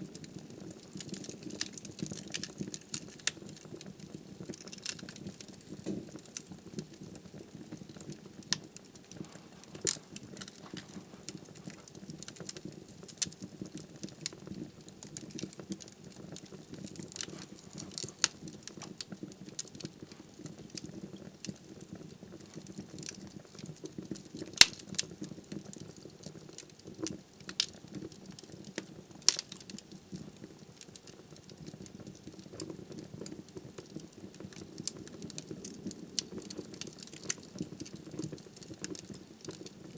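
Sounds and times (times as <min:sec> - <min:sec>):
firewood crackling and popping: 0:00.0 - 0:39.9
low flame rumble: 0:00.0 - 0:39.9.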